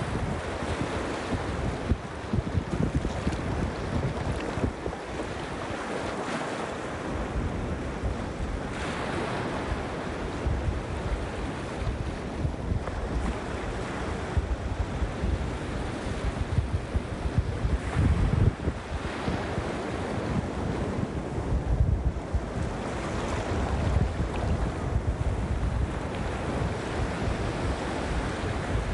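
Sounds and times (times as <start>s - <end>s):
small waves breaking on sand: 0.0s - 28.9s
wind buffeting microphone: 0.0s - 28.9s.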